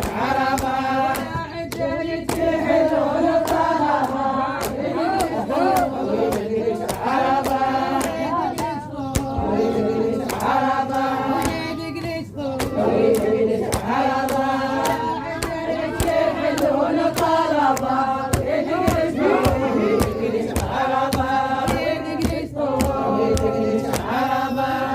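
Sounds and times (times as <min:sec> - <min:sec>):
sharp percussive beat: 0:00.0 - 0:24.5
voices chanting in unison: 0:00.0 - 0:24.9.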